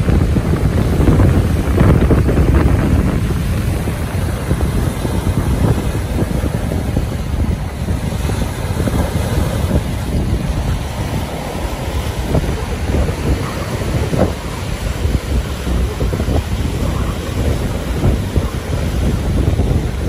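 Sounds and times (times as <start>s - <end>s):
waves splashing on rocky shore: 0.0s - 20.0s
wind buffeting microphone: 0.0s - 20.0s.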